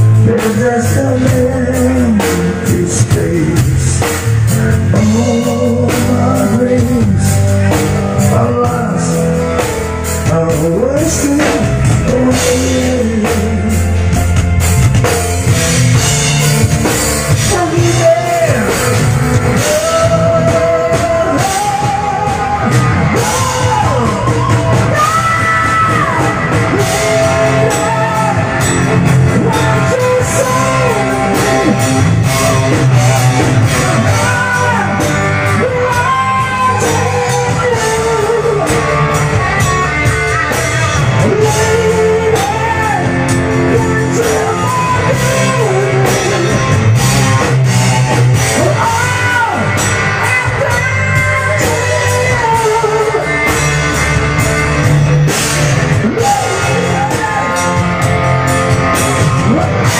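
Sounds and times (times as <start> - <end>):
man singing: 0.0 - 14.6, 15.5 - 59.9
live rock band playing: 0.0 - 59.9.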